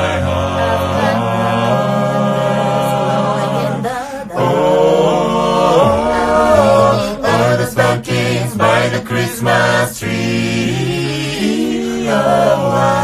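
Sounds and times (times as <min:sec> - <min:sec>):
vocal group singing a cappella: 0:00.0 - 0:13.0.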